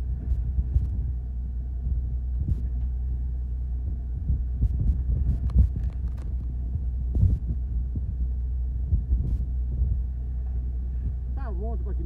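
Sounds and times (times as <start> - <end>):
boat engine throbbing: 0.0 - 12.0
wind: 0.0 - 12.0.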